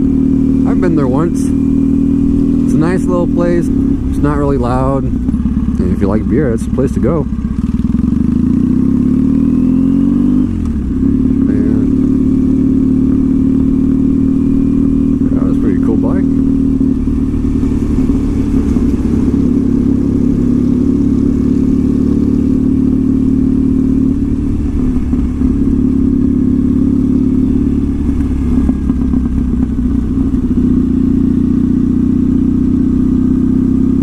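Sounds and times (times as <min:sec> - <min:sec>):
motorcycle engine droning: 0:00.0 - 0:34.0.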